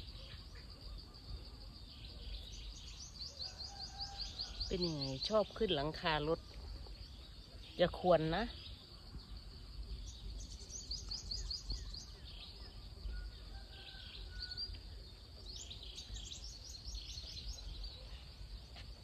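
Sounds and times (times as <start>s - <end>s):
bird chirping: 1.8s - 18.5s.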